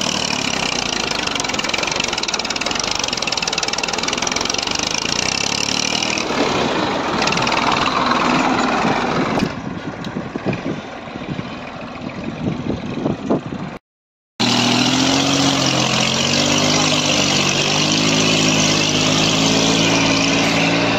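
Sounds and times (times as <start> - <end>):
tractor diesel engine under load: 0.0 - 13.8, 14.4 - 20.9.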